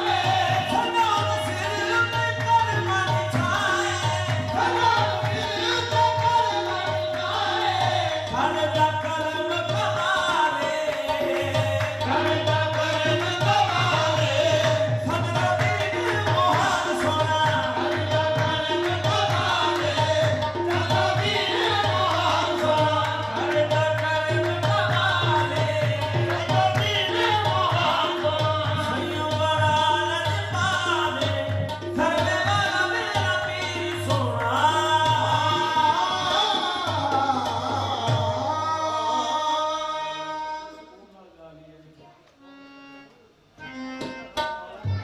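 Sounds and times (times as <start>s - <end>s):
men singing: 0.0s - 40.8s
harmonium: 0.0s - 45.0s.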